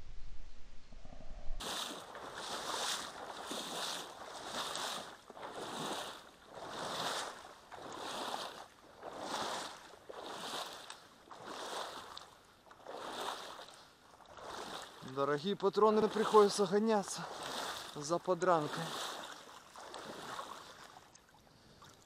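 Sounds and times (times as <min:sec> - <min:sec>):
water swishing and sloshing: 0:00.0 - 0:22.0.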